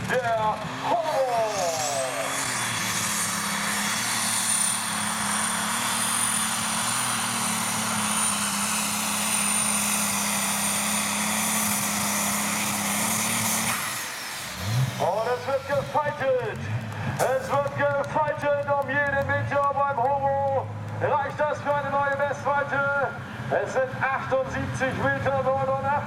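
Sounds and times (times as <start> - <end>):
high turbo whine: 0.0 - 26.0
tractor engine drone: 0.0 - 26.0.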